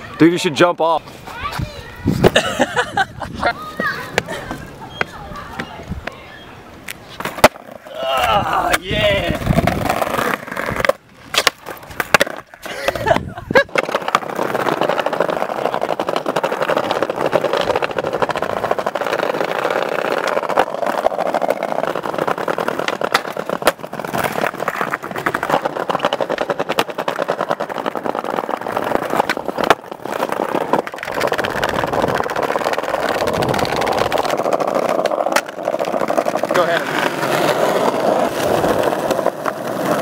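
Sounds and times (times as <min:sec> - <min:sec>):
skateboard wheels rolling on bricks: 0:00.0 - 0:40.0
skateboard pops and landings: 0:06.9 - 0:40.0.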